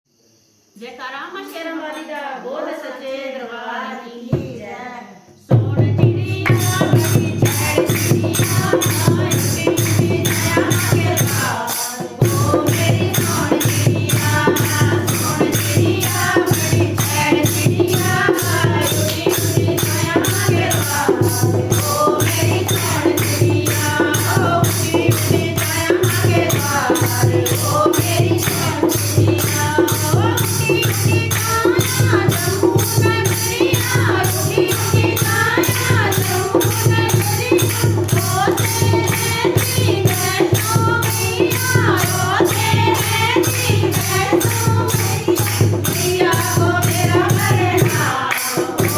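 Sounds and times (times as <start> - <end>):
group singing devotional song: 1.1 - 48.9
steady percussion beat: 5.5 - 48.9.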